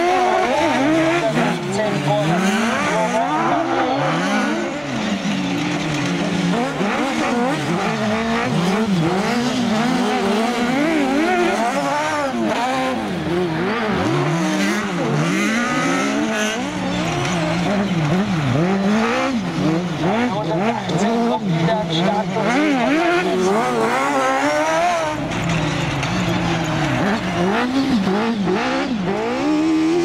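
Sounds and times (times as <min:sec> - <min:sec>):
racing buggy engines revving: 0:00.0 - 0:30.0.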